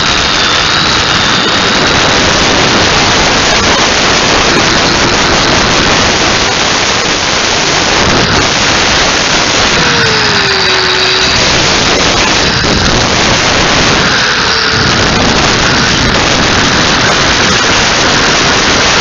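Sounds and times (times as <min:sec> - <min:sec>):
power grinder running: 0:00.0 - 0:19.0.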